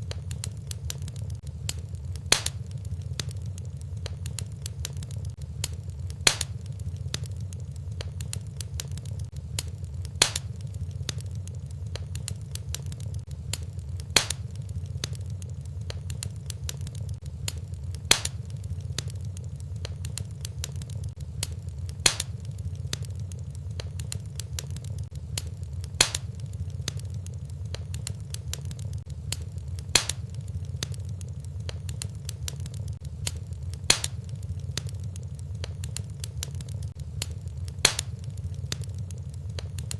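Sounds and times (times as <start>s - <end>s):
fire popping sharply: 0.0s - 39.9s
fireplace fire crackling: 0.0s - 39.9s
low steady rumble: 0.0s - 39.9s.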